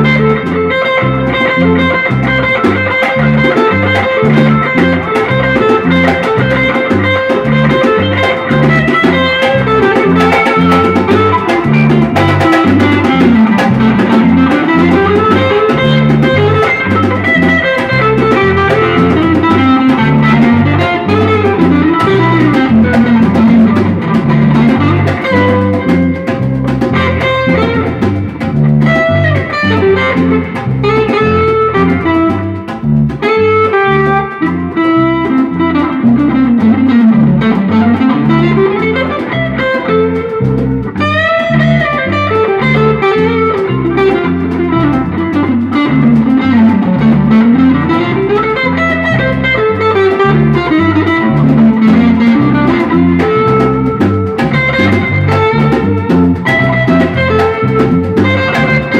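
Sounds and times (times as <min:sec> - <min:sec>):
bass: 0:00.0 - 0:58.9
drums steady beat: 0:00.0 - 0:58.9
guitar melody: 0:00.0 - 0:58.9.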